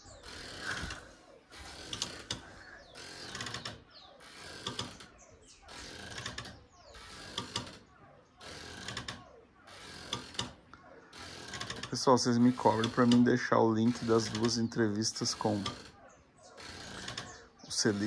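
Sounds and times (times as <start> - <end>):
hammock creaking: 0.0 - 18.0.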